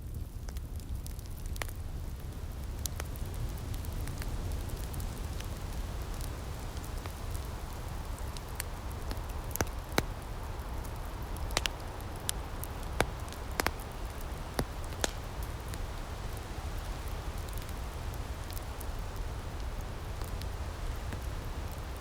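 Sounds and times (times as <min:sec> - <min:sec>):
low rumble and soft hiss: 0:00.0 - 0:22.0
wood fire crackling and popping: 0:00.0 - 0:22.0.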